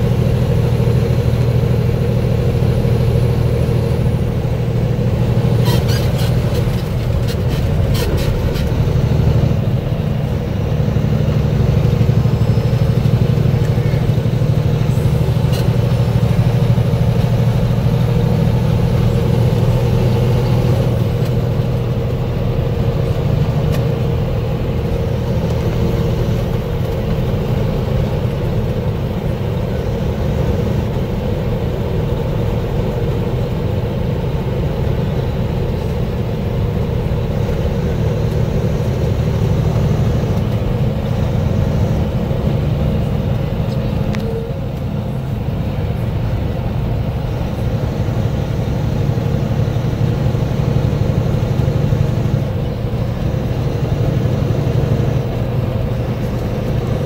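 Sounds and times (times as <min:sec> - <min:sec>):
diesel truck engine drone: 0:00.0 - 0:57.0
tyre and road noise: 0:00.0 - 0:57.0.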